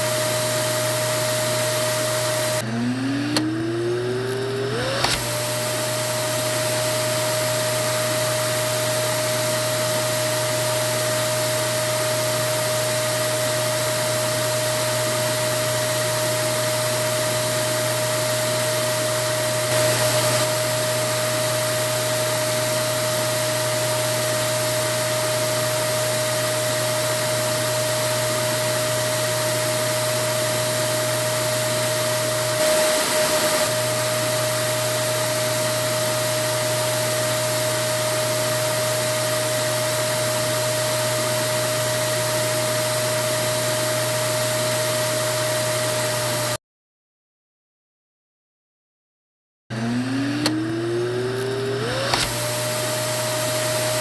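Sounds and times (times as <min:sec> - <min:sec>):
vacuum cleaner running: 0:00.0 - 0:46.6, 0:49.7 - 0:54.0.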